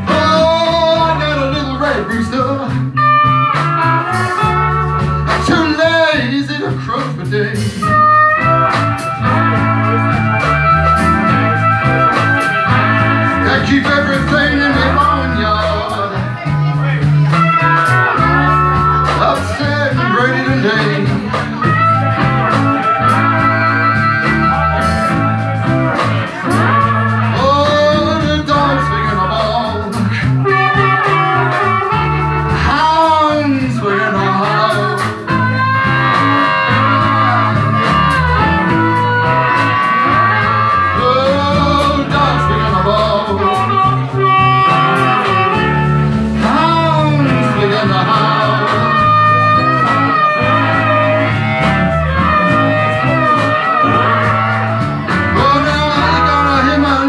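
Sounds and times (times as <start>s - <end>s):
harmonica solo: 0.0s - 57.0s
live blues band: 0.0s - 57.0s.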